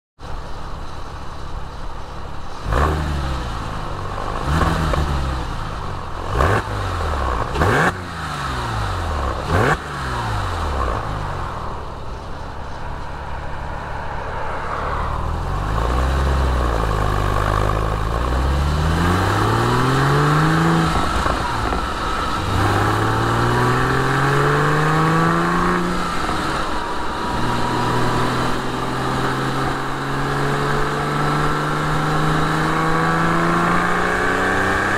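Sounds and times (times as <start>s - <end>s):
car engine exhaust under load: 0.2s - 34.9s.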